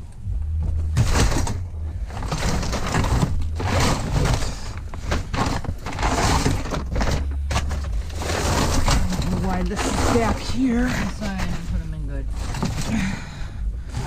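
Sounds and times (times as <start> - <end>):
hard objects clattering and scraping: 0.0 - 14.0.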